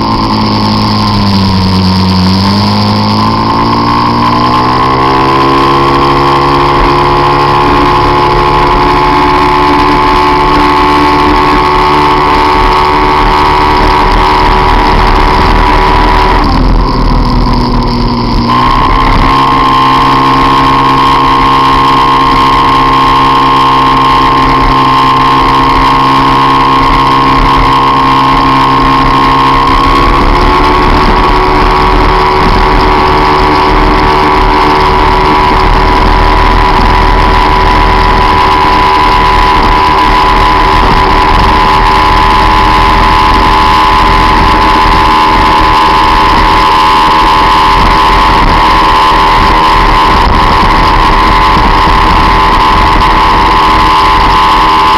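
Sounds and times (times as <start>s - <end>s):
scooter engine running at speed: 0.0s - 54.9s.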